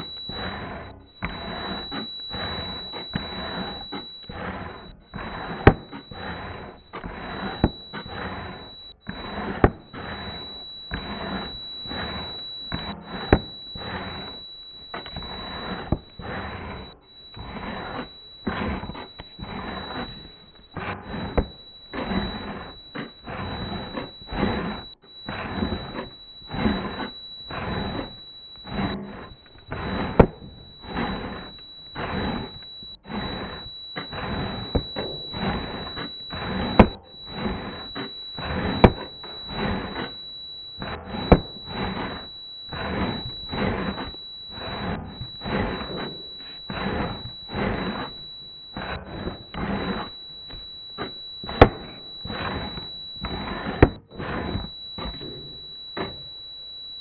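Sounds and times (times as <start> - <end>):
high-pitched whine: 0.0 - 57.0.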